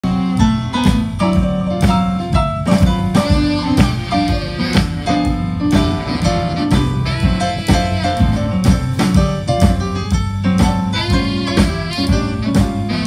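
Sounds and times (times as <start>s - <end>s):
drum kit: 0.0s - 13.0s
electric guitar: 0.0s - 13.0s
live blues band: 0.0s - 13.0s.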